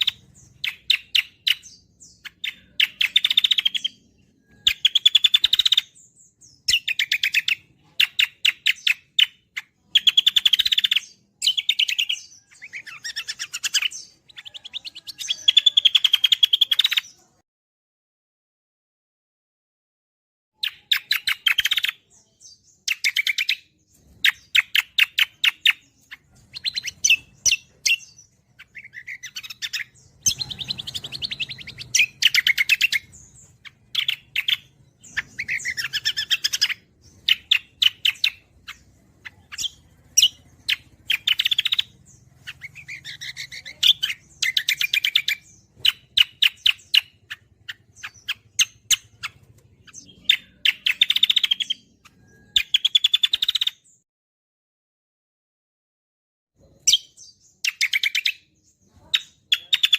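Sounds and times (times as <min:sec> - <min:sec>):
songbird singing trilled notes: 0:00.0 - 0:17.3, 0:20.6 - 0:54.0, 0:56.6 - 0:59.9.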